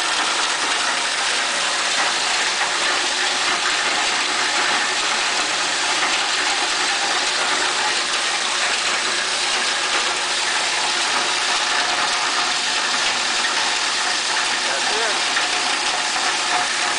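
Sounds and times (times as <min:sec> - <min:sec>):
plastic grinder rushing noise: 0:00.0 - 0:16.9.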